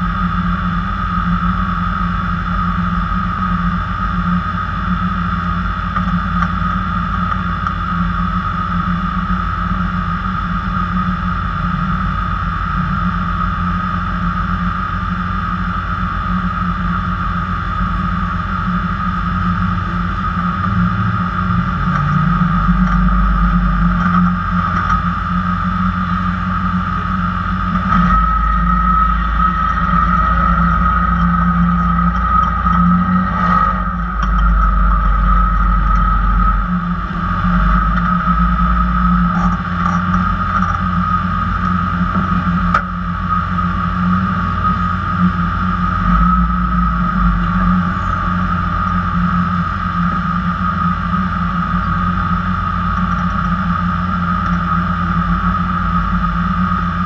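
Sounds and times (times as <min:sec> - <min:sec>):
constant high whine: 0:00.0 - 0:57.0
engine idling: 0:00.0 - 0:57.0.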